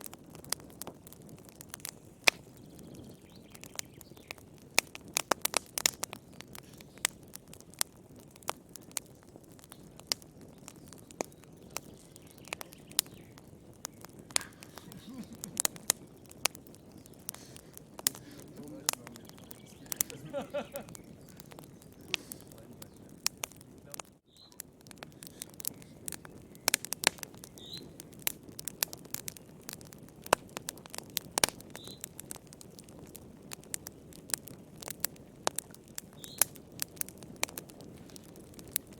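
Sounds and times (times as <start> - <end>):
fire crackling and popping: 0.0 - 38.9
fire hissing: 0.0 - 38.9.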